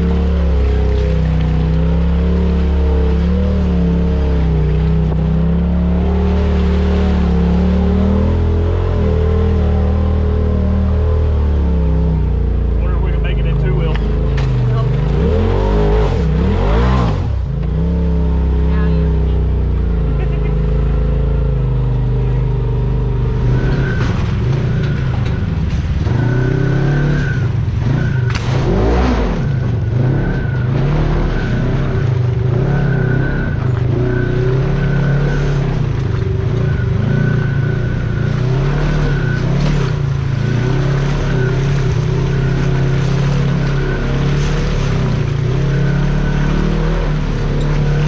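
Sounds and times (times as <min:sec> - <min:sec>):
utility vehicle engine revving: 0:00.0 - 0:48.0.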